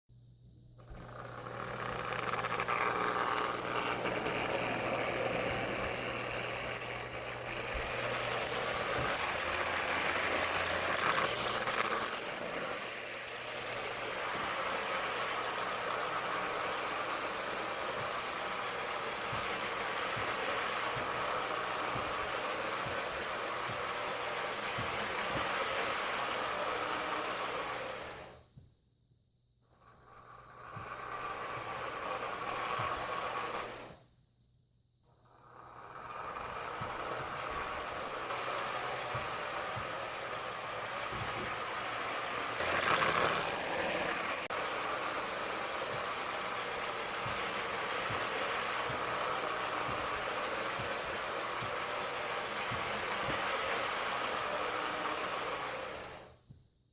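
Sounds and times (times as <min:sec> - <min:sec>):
toy train whirring and rattling: 0:00.8 - 0:28.5, 0:29.9 - 0:34.2, 0:35.4 - 0:56.4.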